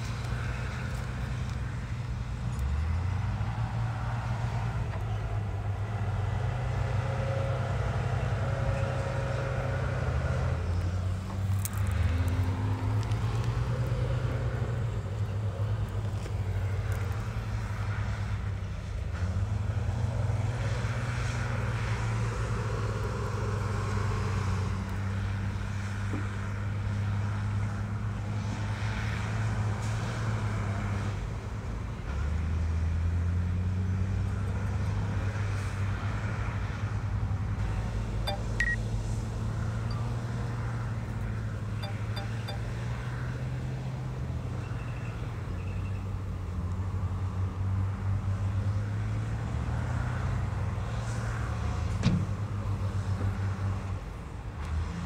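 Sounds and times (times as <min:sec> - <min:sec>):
heavy diesel engines revving: 0:00.0 - 0:55.0.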